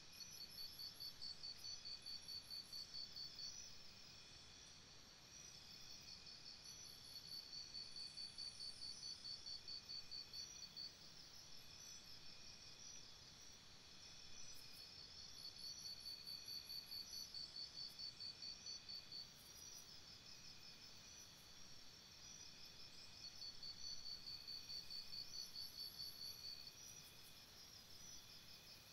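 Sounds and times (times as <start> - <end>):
insects chirping: 0.1 - 28.9.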